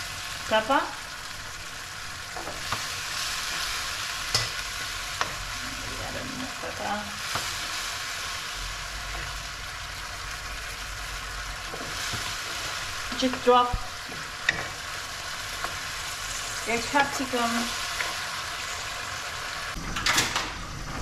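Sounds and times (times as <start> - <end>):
sauce sizzling in a pan: 0.0 - 19.8.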